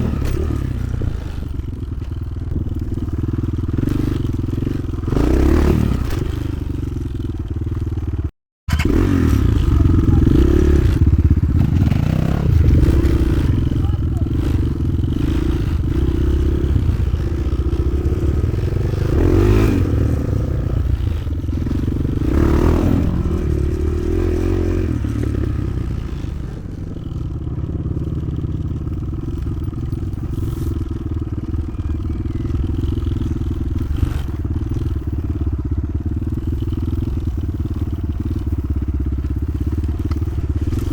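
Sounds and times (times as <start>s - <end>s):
motorcycle engine revving: 0.0s - 40.9s
motorcycle rattling: 0.0s - 40.9s.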